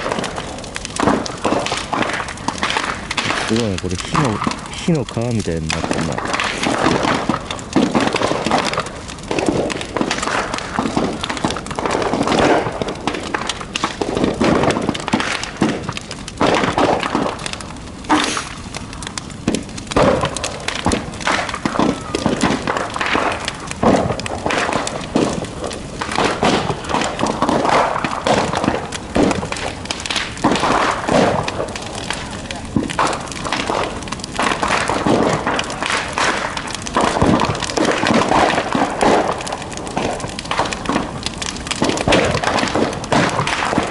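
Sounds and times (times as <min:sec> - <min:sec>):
bonfire crackling and popping: 0:00.0 - 0:43.9.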